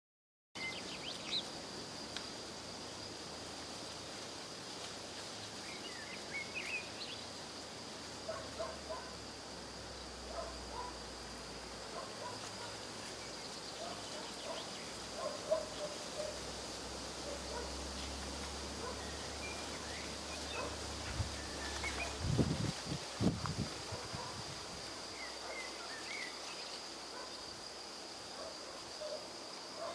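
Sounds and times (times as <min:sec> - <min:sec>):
high-pitched insect drone: 0:00.6 - 0:29.9.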